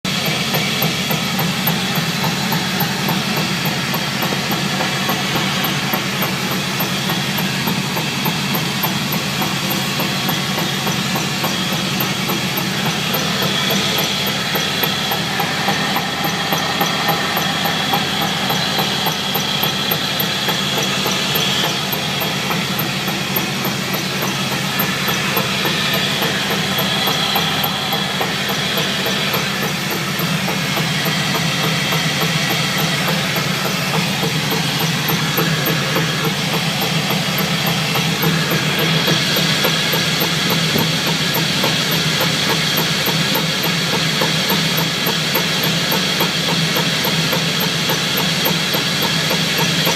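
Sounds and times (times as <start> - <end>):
truck drivetrain and road rumble: 0.0 - 49.9.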